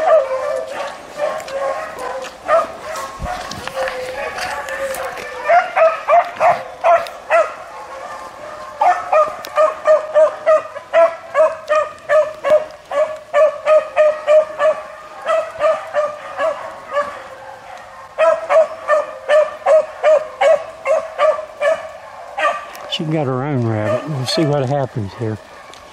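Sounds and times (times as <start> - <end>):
hounds baying: 0.0 - 25.9.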